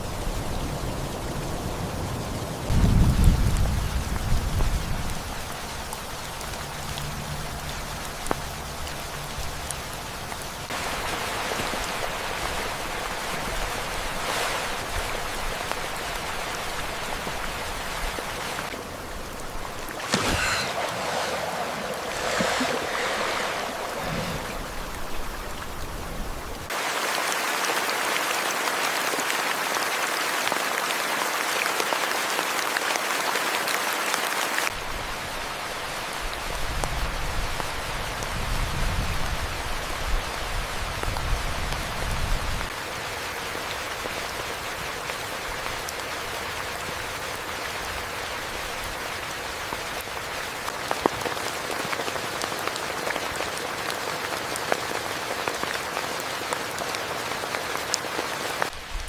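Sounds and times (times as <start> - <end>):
rain falling: 0.0 - 38.4, 39.0 - 59.0.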